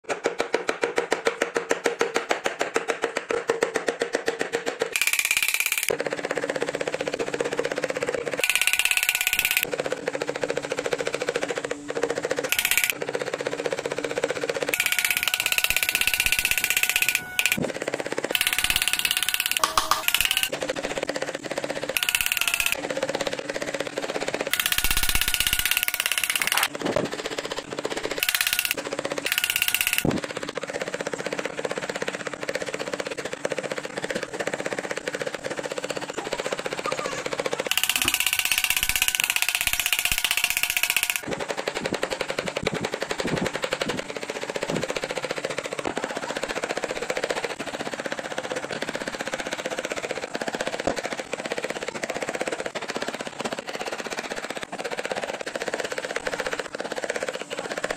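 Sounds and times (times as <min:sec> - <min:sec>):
chisel cutting wood: 0:00.1 - 0:57.9.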